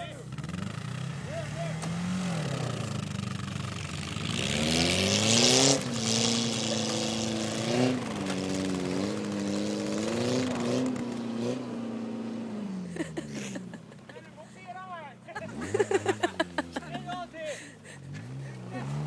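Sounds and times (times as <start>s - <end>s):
car engine revving: 0.0s - 14.1s, 15.2s - 19.0s.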